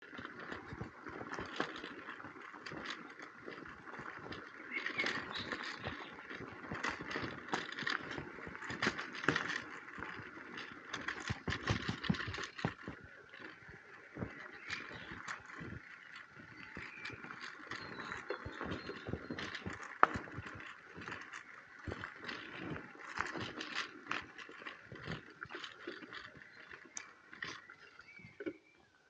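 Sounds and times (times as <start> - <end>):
bike rattling and knocking: 0.0 - 28.6
bicycle tyre noise on rough path: 0.0 - 29.0.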